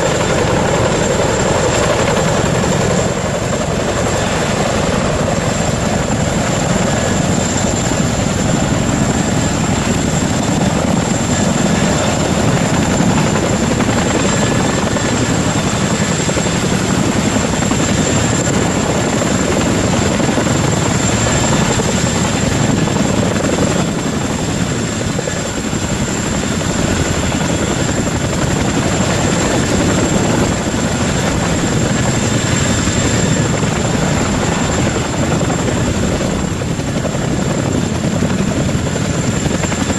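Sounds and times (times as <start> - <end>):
helicopter rotor and engine noise: 0.0 - 39.9
high turbine whine: 0.0 - 39.9.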